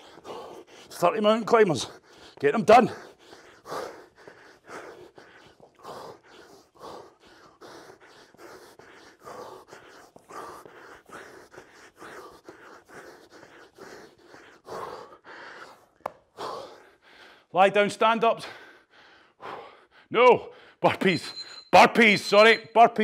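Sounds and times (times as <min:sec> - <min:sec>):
man breathing hard: 0:00.0 - 0:17.6, 0:18.4 - 0:20.8.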